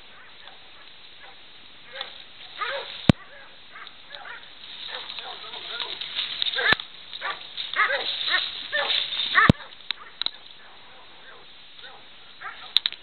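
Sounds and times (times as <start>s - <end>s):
dogs barking: 0.0s - 12.8s.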